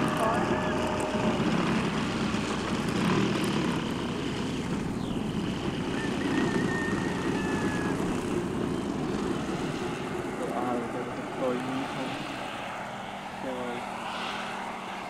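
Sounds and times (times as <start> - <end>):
model airplane engine drone: 0.0 - 15.0.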